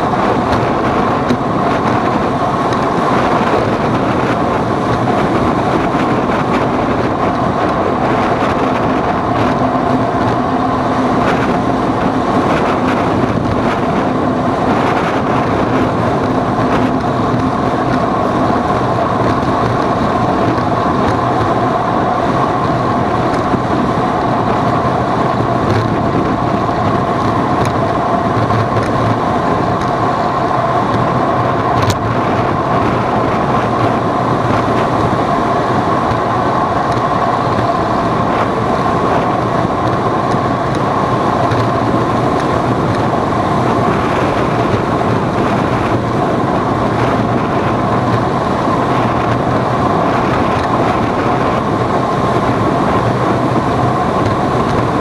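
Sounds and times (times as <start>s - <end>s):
constant whine: 0.0s - 55.0s
vehicle running noise: 0.0s - 55.0s
wind on microphone: 0.0s - 55.0s.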